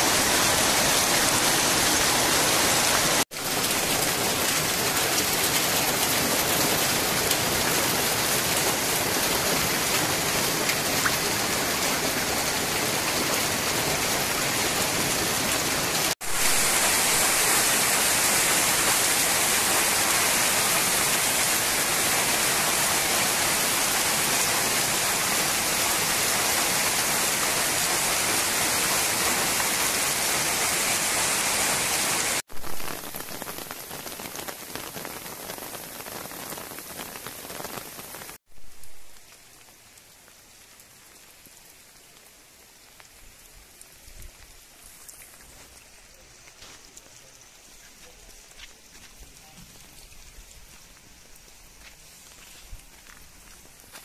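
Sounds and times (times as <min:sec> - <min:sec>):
hail pattering on ground: 0:00.0 - 0:29.8, 0:32.5 - 0:41.5, 0:42.8 - 0:54.0.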